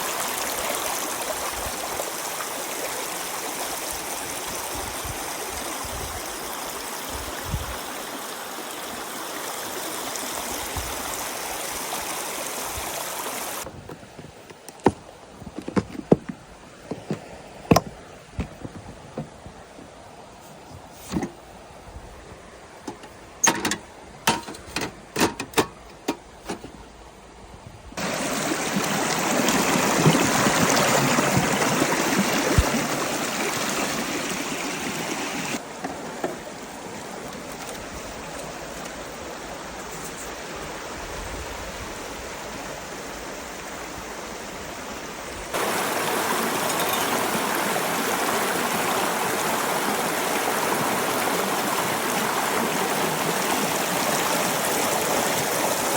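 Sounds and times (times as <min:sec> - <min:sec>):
stream rushing over rocks: 0:00.0 - 0:18.4, 0:28.0 - 0:55.9.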